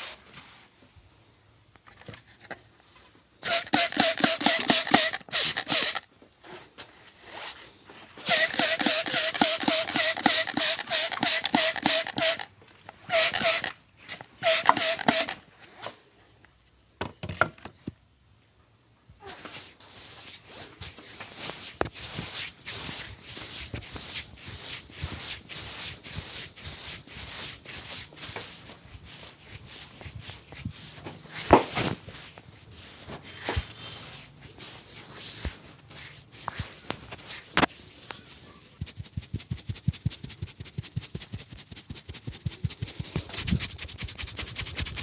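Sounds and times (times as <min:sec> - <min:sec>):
hands rubbing strokes: 0:03.4 - 0:06.1, 0:07.2 - 0:12.5, 0:13.1 - 0:15.4, 0:19.3 - 0:45.0.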